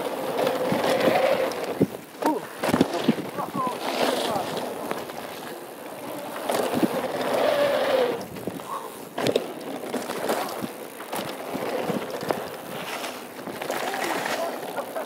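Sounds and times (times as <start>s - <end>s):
bike rattling over bumps: 0.0s - 15.0s
bike tyres on gravel: 0.0s - 15.0s.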